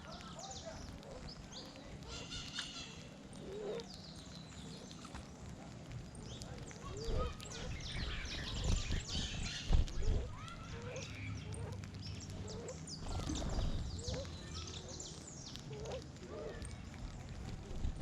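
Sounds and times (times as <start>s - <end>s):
lower bird calls: 0.0s - 5.5s, 6.1s - 18.0s
small birds chirping: 0.0s - 18.0s
low rumbling: 0.8s - 18.0s.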